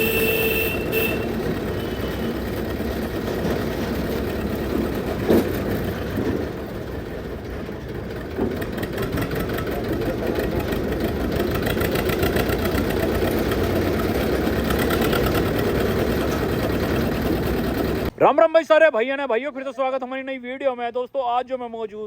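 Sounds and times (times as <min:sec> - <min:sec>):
tractor diesel engine running: 0:00.0 - 0:18.2.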